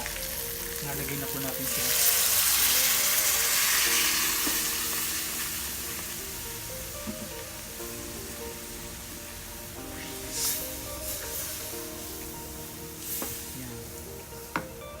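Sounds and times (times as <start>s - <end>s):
liquid sizzling in a hot pan: 0.0s - 15.0s.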